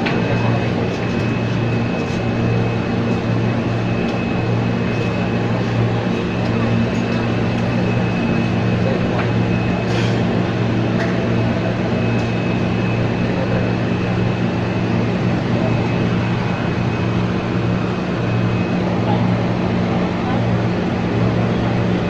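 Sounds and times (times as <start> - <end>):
wheel and rail rumble: 0.0 - 22.0.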